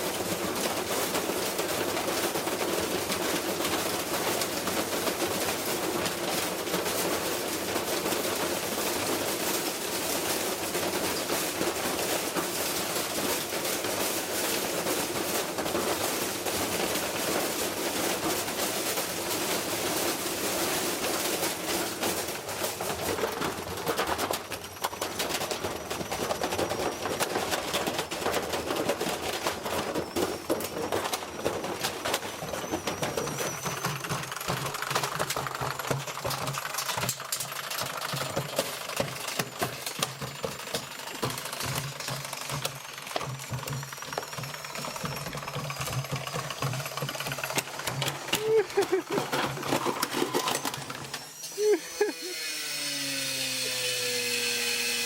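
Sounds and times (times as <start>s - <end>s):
washing machine rattling and banging: 0.0s - 52.1s.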